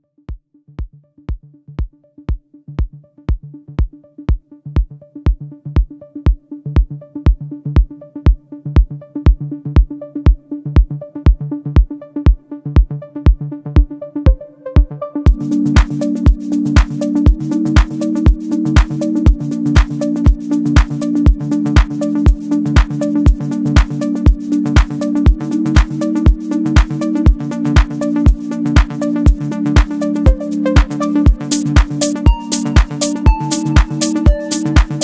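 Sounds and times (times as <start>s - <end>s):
kick drum beat: 0.3s - 35.0s
synth bass notes: 2.6s - 35.0s.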